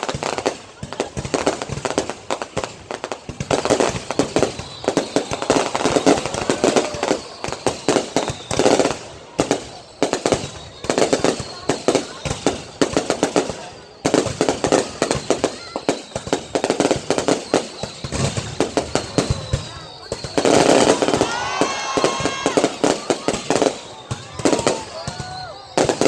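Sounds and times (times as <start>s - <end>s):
fireworks cracking and popping: 0.0s - 26.0s
people's voices: 0.0s - 26.0s.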